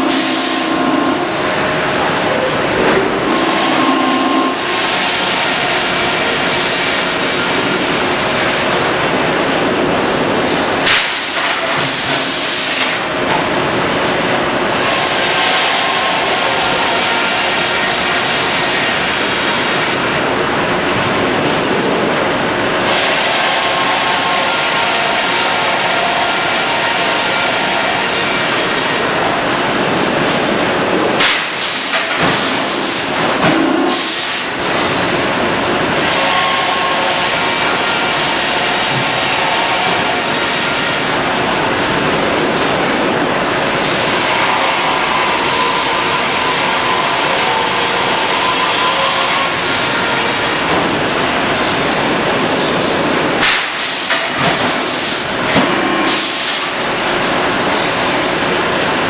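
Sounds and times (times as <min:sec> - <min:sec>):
sawmill machinery rumbling: 0:00.0 - 0:11.0, 0:11.6 - 0:59.0.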